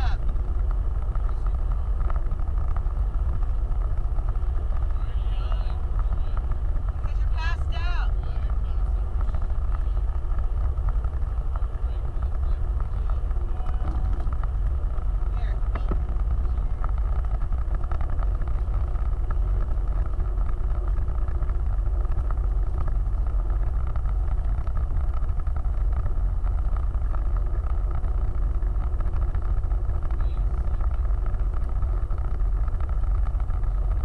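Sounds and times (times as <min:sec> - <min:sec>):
off-road vehicle engine drone: 0:00.0 - 0:34.0.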